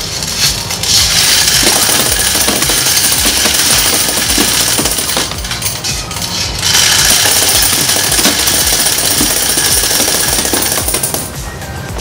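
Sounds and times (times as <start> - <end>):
coin counter rattling: 0.0 - 11.4.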